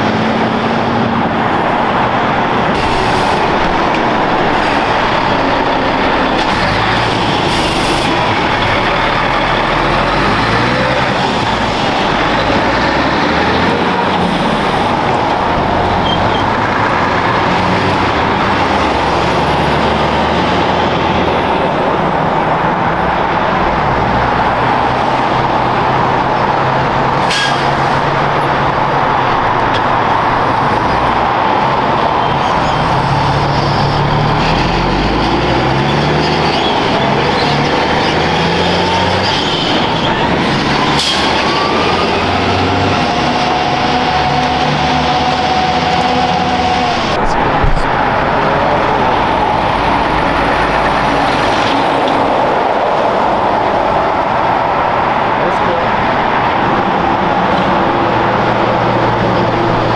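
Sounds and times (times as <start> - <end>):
diesel truck engines: 0.0 - 59.9
tyre and road noise: 0.0 - 59.9.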